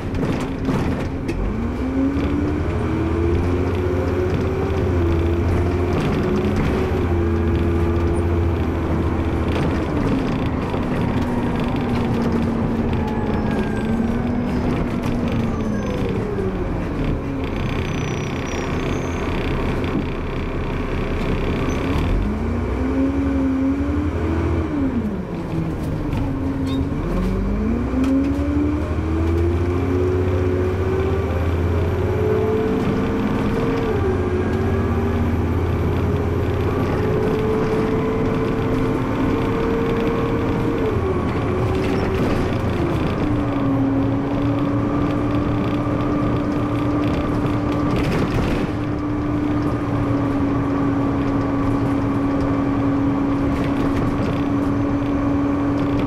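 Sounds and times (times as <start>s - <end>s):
bus engine: 0.0s - 56.0s.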